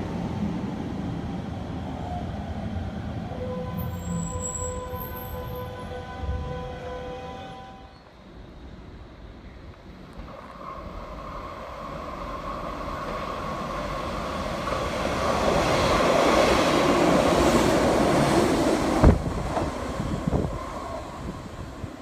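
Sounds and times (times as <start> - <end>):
train rumbling into station: 0.0 - 22.0.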